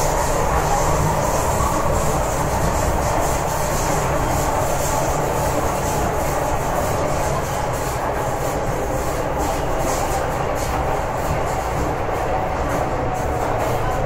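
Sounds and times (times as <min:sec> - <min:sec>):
train running through tunnel: 0:00.0 - 0:14.0.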